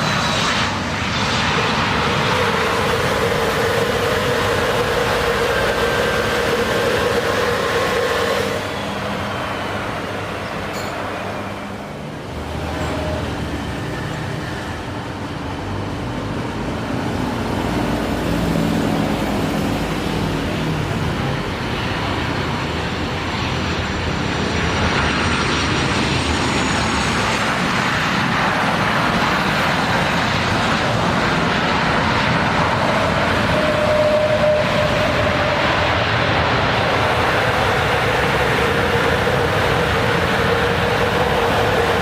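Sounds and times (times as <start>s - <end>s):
jet engines rushing: 0.0s - 42.0s.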